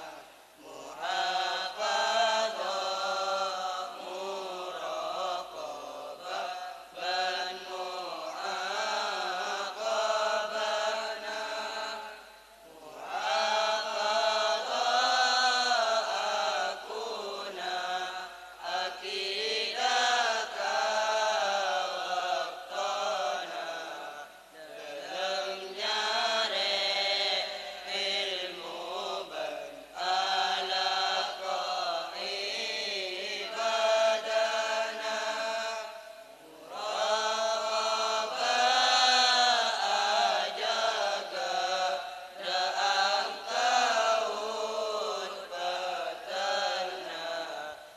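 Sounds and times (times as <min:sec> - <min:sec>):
boys chanting in unison: 0:00.0 - 0:47.9.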